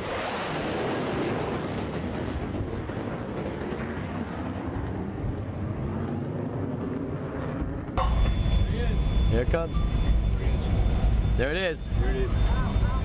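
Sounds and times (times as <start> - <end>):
jet aircraft roaring overhead: 0.0 - 13.0.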